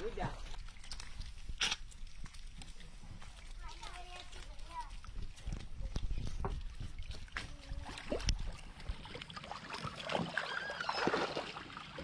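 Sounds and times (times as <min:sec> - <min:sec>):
otters splashing in water: 0:00.0 - 0:12.0.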